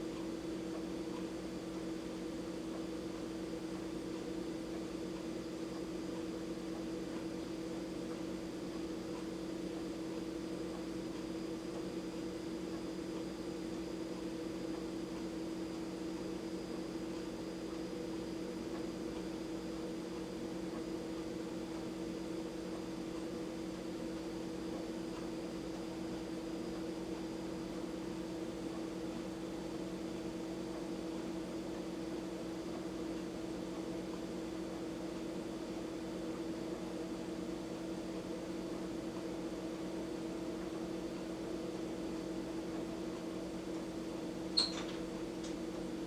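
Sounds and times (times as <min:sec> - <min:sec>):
low machine hum: 0:00.0 - 0:46.0.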